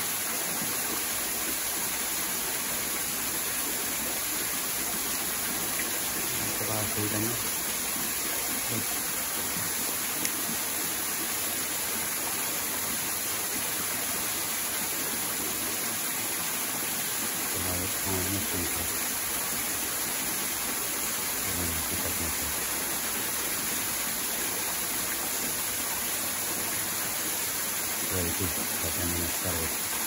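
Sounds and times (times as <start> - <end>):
stream flowing over rocks: 0.0 - 30.0.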